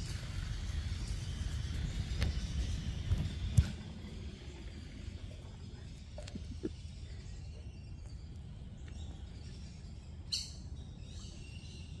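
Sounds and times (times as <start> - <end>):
steady low rumble: 0.0 - 11.9
birds chirping: 0.9 - 12.0.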